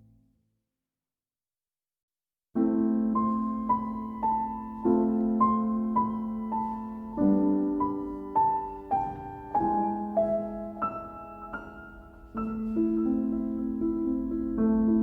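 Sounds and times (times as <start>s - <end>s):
gentle solo piano music: 2.6s - 15.0s.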